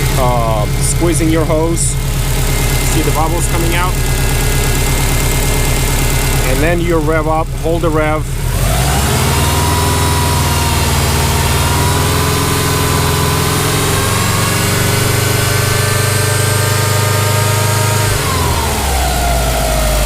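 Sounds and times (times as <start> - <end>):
car engine at raised revs: 0.0 - 20.0.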